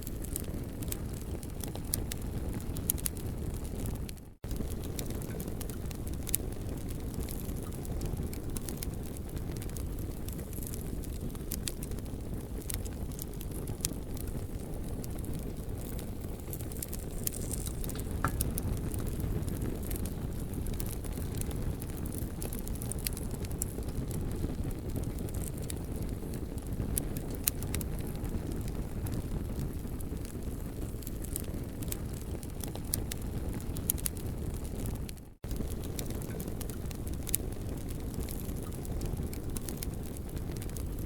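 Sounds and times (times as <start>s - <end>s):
campfire crackling: 0.0s - 41.0s.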